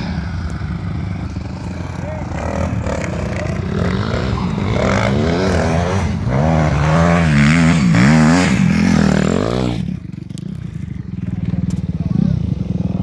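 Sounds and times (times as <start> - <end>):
dirt bike engine revving: 0.0 - 11.4.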